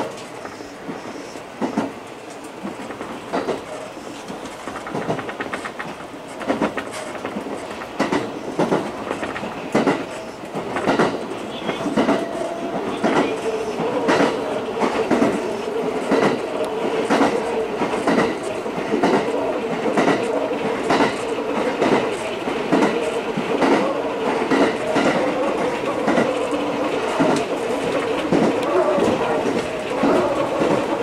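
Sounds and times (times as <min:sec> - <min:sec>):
steady train hum: 0:00.0 - 0:31.0
wheels clicking over rail joints: 0:01.6 - 0:31.0.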